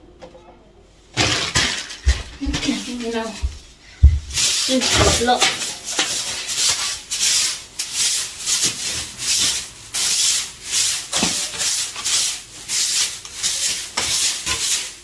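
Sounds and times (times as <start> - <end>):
broom sweeping hard floor: 1.3 - 15.0.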